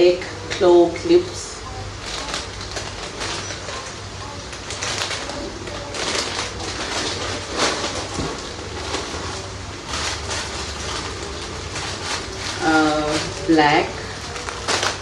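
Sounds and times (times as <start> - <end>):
low steady hum: 0.0 - 15.0
plastic packets crinkling: 2.0 - 15.0.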